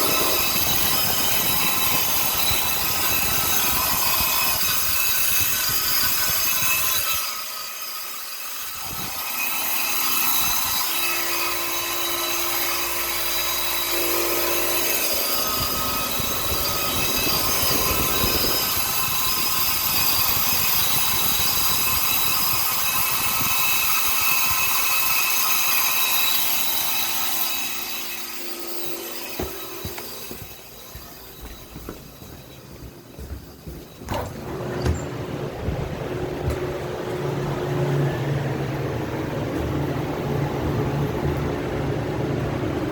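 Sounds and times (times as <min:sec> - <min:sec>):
compressor running with whining tones: 0:00.0 - 0:42.9.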